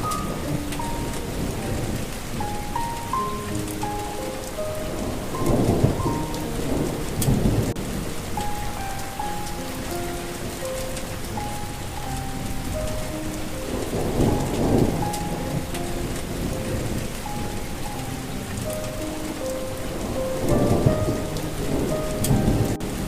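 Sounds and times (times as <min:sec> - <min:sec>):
slow melody of held notes: 0:00.0 - 0:23.0
steady rain: 0:00.0 - 0:23.0
thunder rumbling: 0:00.0 - 0:23.0.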